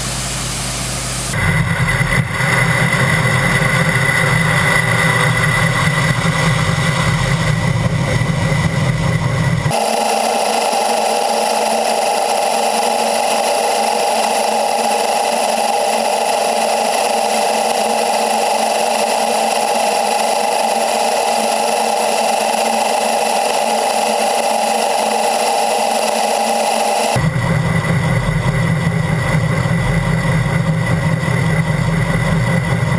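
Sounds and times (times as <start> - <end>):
high-pitched mechanical whir: 0.0 - 32.9.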